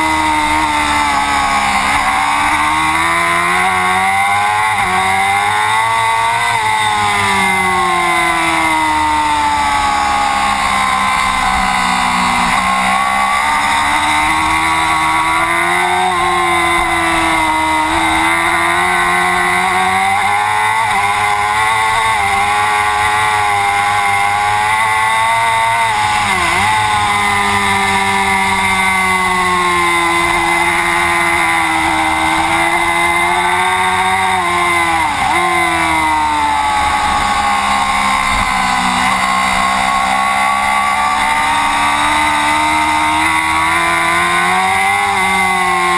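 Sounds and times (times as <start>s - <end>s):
superbike engine at high revs: 0.0s - 45.9s.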